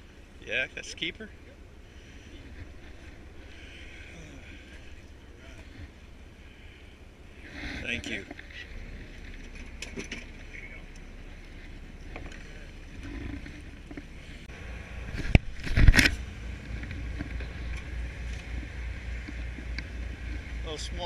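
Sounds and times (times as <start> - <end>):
boat engine rumble: 0.0 - 21.0.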